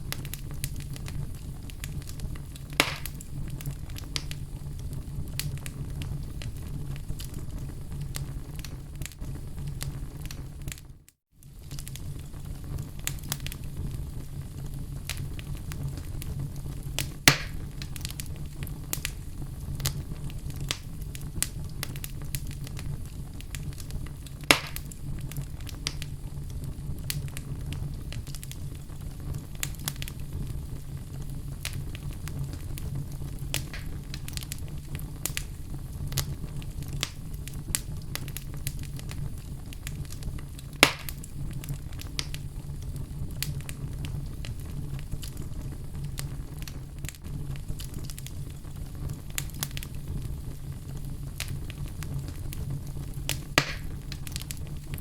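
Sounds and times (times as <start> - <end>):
loud fire pops: 0.0 - 55.0
low fire rumble: 0.0 - 55.0
wood fire crackling: 0.0 - 55.0.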